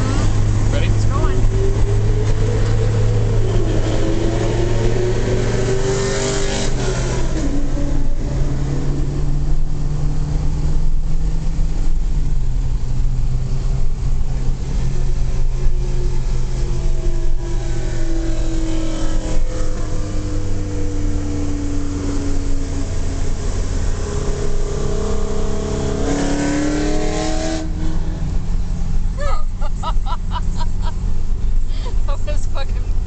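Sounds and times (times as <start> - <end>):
loud car engine in a tunnel: 0.0 - 33.0.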